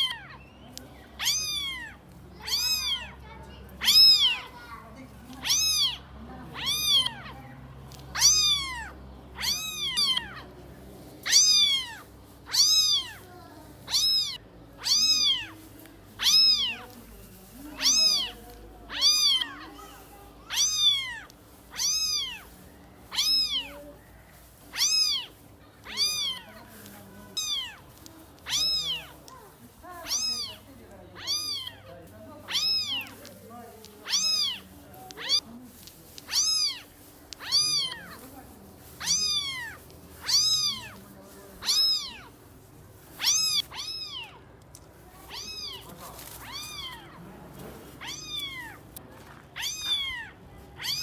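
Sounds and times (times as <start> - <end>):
cat meowing: 0.0 - 3.2, 3.8 - 4.6, 5.4 - 7.5, 8.1 - 10.5, 11.2 - 17.0, 17.8 - 24.0, 24.6 - 29.4, 30.0 - 33.3, 34.0 - 38.3, 38.9 - 42.4, 43.0 - 44.4, 45.2 - 47.3, 47.9 - 48.9, 49.5 - 51.0.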